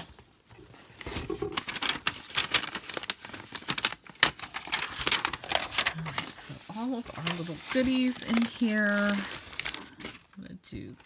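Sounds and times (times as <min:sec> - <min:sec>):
tissue paper rustling: 0:00.0 - 0:11.0
sticker peeling crackles: 0:01.1 - 0:10.0.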